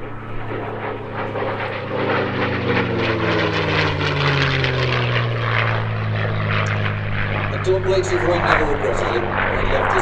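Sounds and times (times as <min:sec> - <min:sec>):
propeller plane engine passing: 0:00.0 - 0:10.0.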